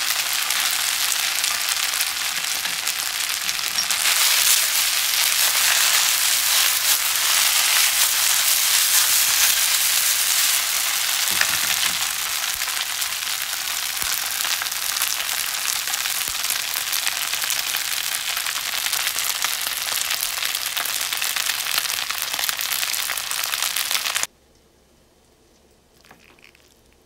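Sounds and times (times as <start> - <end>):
noodles sizzling in a pan: 0.0 - 24.3.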